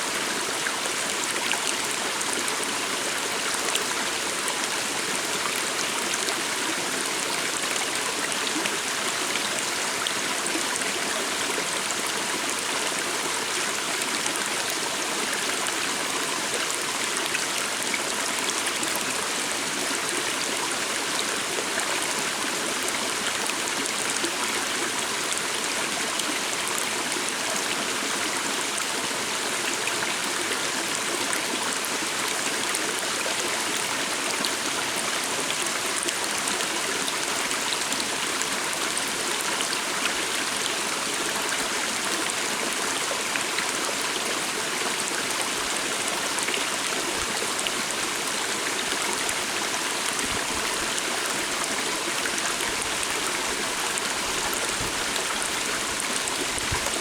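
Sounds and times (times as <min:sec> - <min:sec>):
small water splashes and trickles: 0:00.0 - 0:57.0
stream running over stones: 0:00.0 - 0:57.0.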